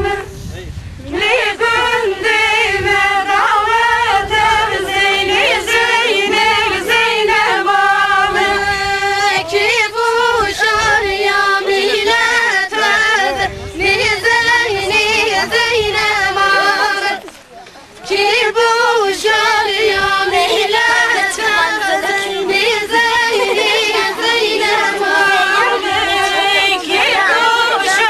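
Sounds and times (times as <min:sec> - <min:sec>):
women singing unaccompanied folk song: 0:00.0 - 0:17.4, 0:18.0 - 0:28.0.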